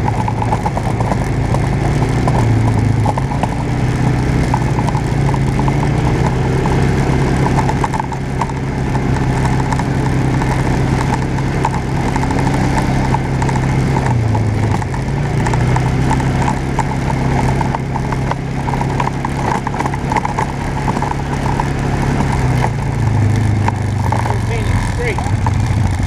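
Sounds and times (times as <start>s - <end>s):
light rattling clicks: 0.0s - 26.0s
off-road vehicle engine running: 0.0s - 26.0s.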